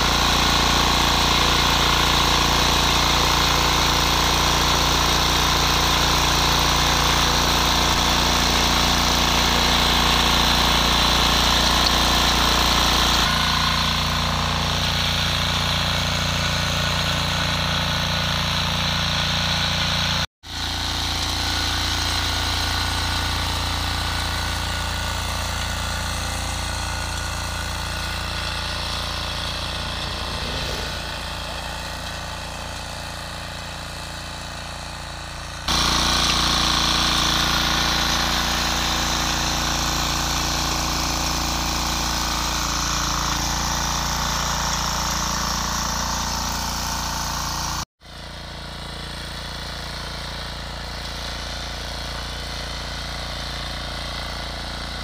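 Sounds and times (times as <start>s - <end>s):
tiller engine running: 0.0s - 55.0s
tines churning soil: 0.0s - 55.0s.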